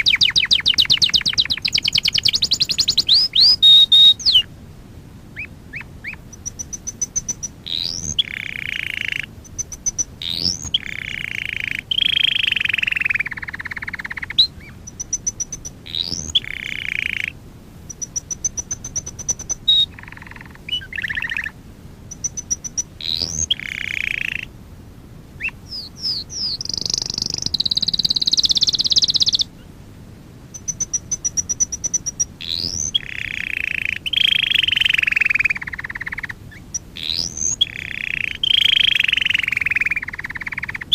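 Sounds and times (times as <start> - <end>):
canary singing trills: 0.0 - 4.5, 5.3 - 24.6, 25.4 - 29.7, 30.5 - 40.9.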